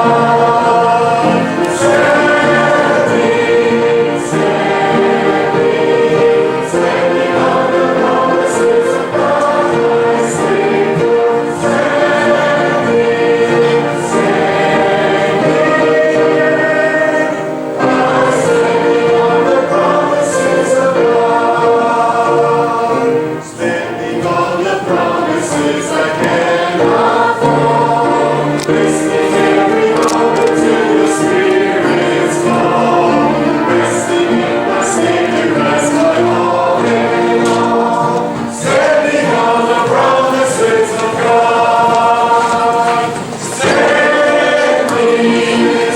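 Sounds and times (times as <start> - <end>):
choir singing: 0.0 - 45.9.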